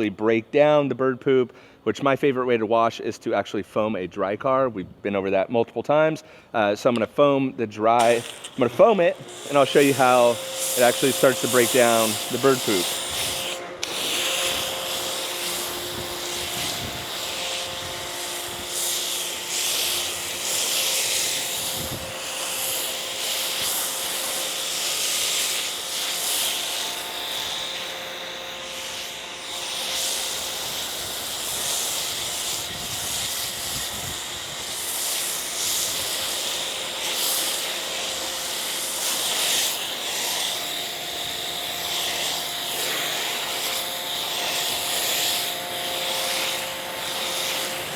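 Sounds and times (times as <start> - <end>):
foam spray hissing: 8.0 - 47.9.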